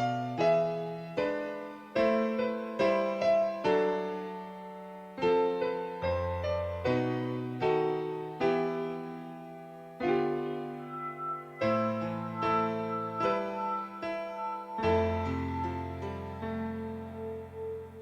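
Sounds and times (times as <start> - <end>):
piano playing slow chords: 0.0 - 18.0.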